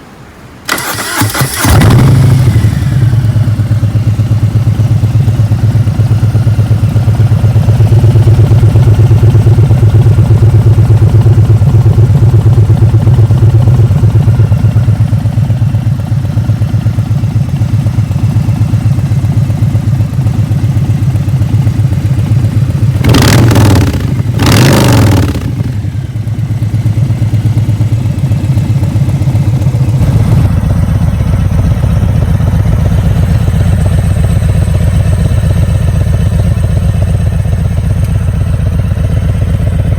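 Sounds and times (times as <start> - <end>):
motorcycle engine idling and revving: 0.7 - 39.9.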